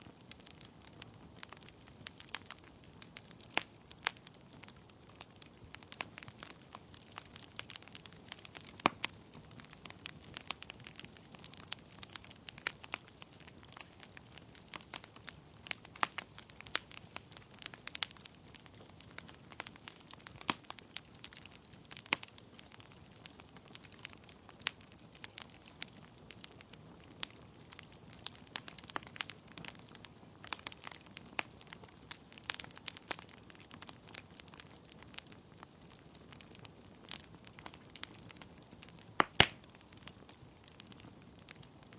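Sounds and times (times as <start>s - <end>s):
logs crackling and popping: 0.0s - 41.9s.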